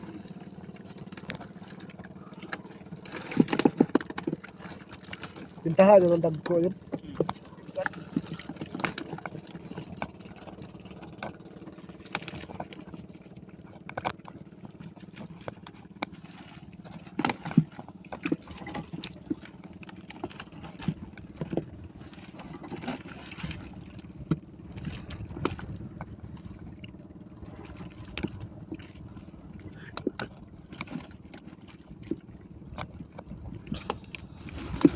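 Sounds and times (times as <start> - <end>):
knocks and clatter in boat: 0.0 - 34.9
low motor hum: 0.0 - 34.9.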